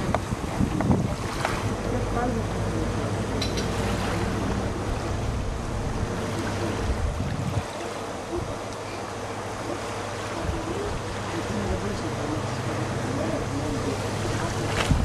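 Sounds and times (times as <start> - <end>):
small waves at shore: 0.0 - 15.0
wind rumbling on microphone: 0.0 - 15.0.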